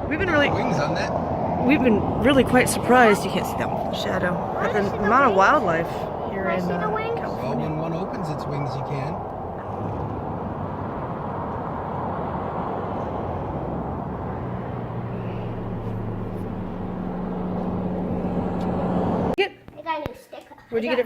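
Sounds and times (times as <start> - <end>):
car road and engine noise: 0.0 - 19.4
low engine hum: 0.0 - 19.4.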